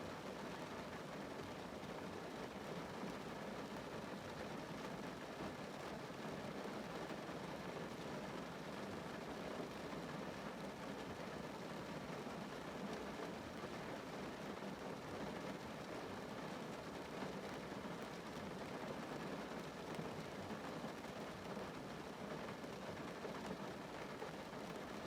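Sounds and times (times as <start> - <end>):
rain on a car roof: 0.0 - 25.0.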